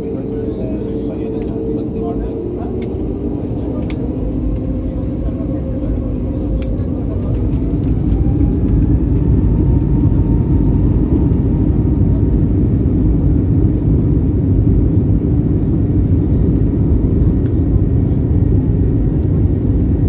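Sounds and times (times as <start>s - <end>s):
jet engines at takeoff thrust: 0.0s - 20.0s
wheels rumbling on runway: 0.0s - 20.0s.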